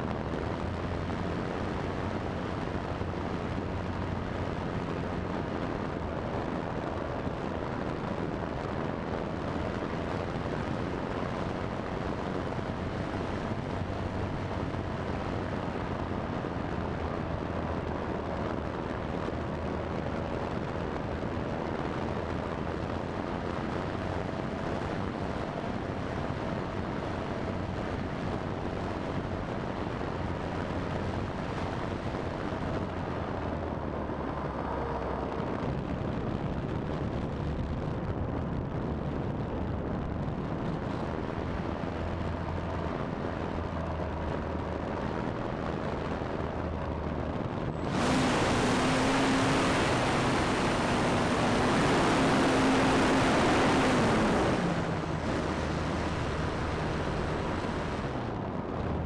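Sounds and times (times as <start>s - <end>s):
wind rushing over model plane: 0.0s - 59.0s.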